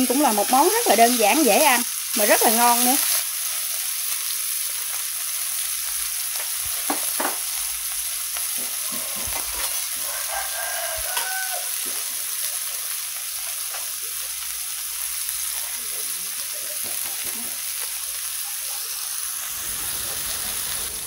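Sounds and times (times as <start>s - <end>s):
mushrooms sizzling in a pan: 0.0s - 21.0s.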